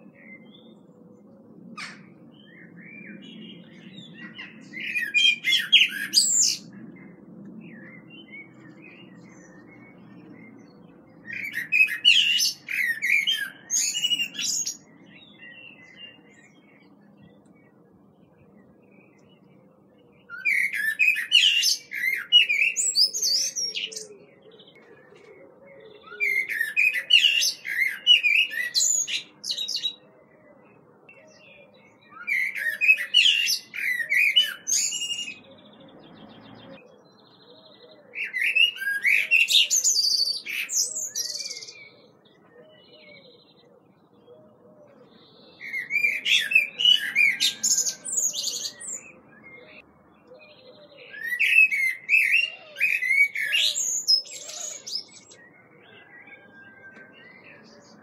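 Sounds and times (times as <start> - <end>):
bird singing warbling notes: 0.0 - 58.0.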